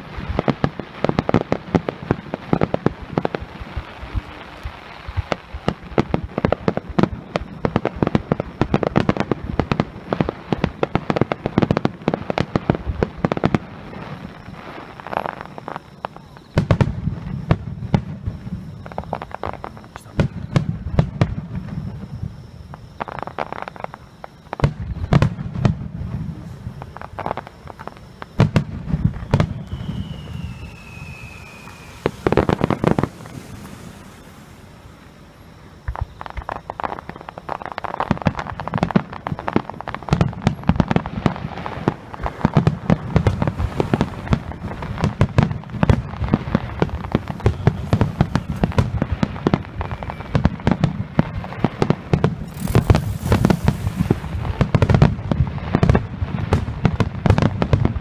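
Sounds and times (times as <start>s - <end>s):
falling firework whistle: 0.0s - 58.0s
fireworks booming and crackling: 0.0s - 58.0s.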